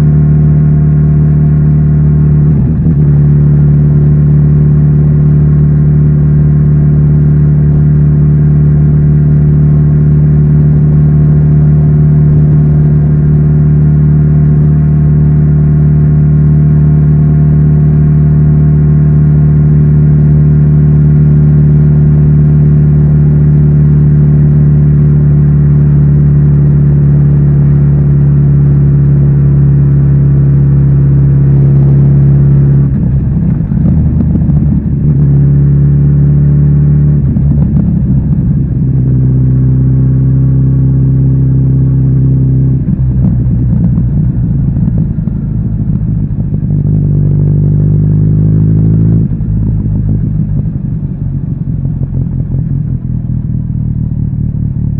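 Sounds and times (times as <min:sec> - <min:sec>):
motorcycle engine running steadily: 0:00.0 - 0:54.9.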